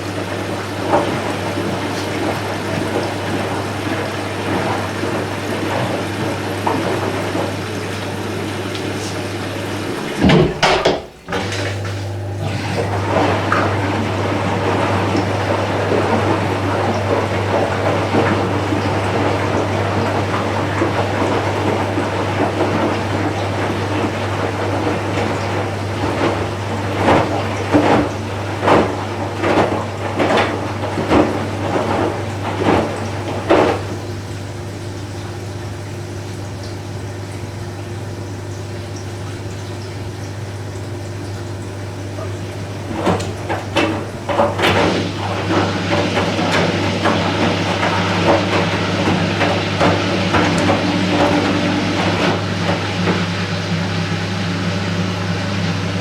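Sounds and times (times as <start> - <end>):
washing machine running: 0.0 - 56.0
water sloshing in drum: 0.0 - 56.0.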